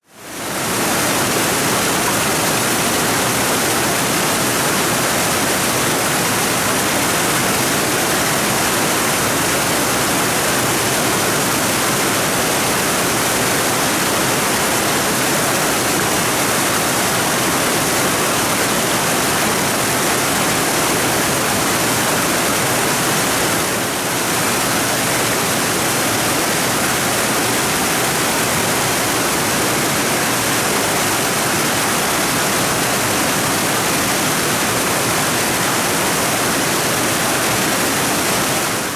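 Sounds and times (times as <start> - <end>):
stream rushing: 0.3 - 38.9.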